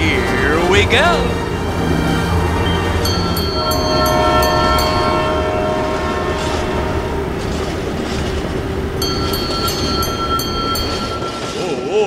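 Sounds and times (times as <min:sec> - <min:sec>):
train horn: 0:00.0 - 0:11.4
train rumbling: 0:00.0 - 0:12.0.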